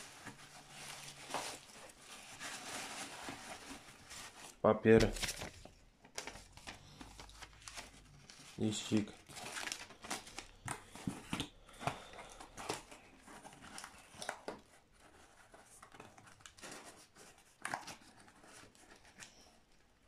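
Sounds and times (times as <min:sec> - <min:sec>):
packing paper crinkling and rustling: 0:00.0 - 0:20.0.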